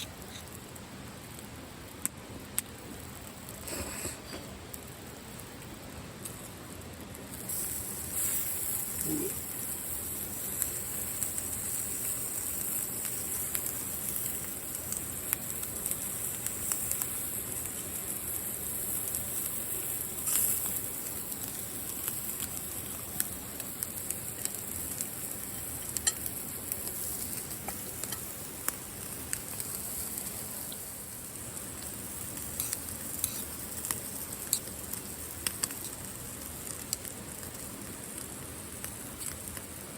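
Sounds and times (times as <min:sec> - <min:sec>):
meat sizzling on a grill: 0:00.0 - 0:39.9
fat popping and crackling: 0:06.2 - 0:39.8.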